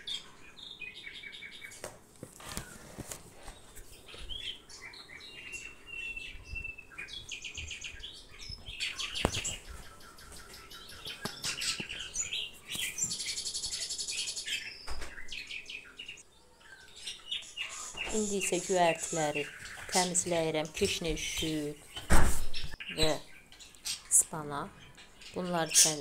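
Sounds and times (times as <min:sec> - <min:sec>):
bird singing chirps and trills: 0:00.0 - 0:01.8, 0:03.5 - 0:26.0.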